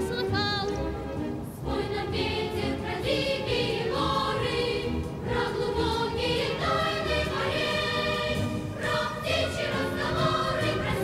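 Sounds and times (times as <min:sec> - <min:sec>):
choir singing long notes: 0:01.4 - 0:11.0.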